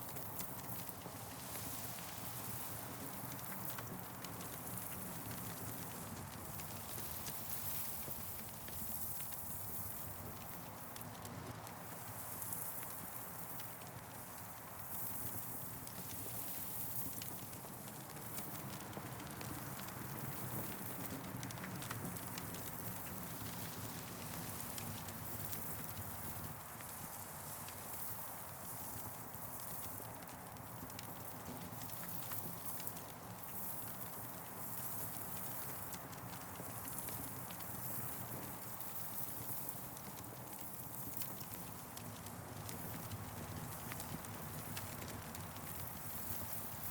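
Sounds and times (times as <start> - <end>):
campfire crackling: 2.2 - 9.3, 13.6 - 46.9.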